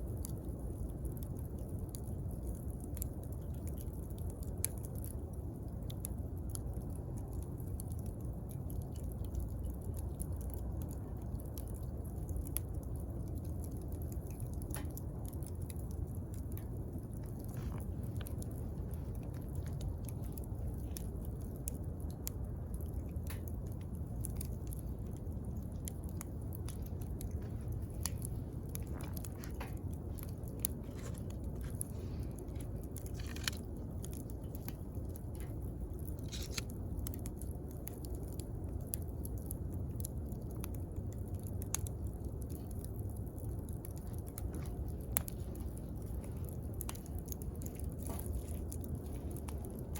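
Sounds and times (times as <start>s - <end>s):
burning wood crackling: 0.0s - 49.9s
campfire flames rushing: 0.0s - 49.9s.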